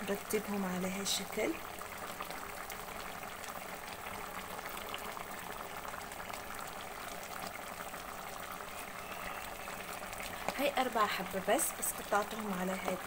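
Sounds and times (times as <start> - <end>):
stew bubbling and popping: 0.0 - 13.0.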